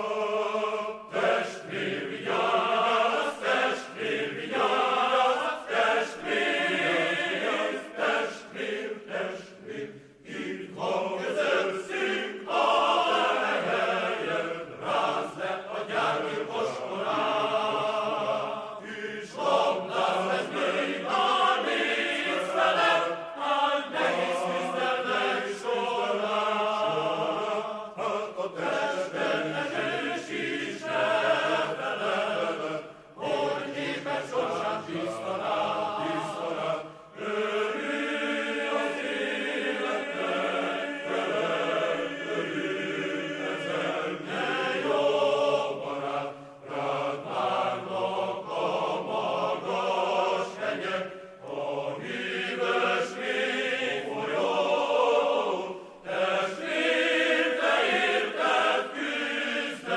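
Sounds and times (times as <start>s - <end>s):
choral singing: 0.0s - 59.9s.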